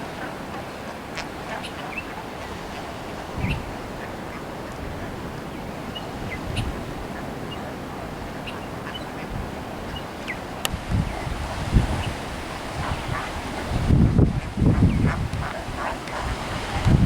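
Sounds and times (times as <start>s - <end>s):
seals barking: 0.0s - 17.0s.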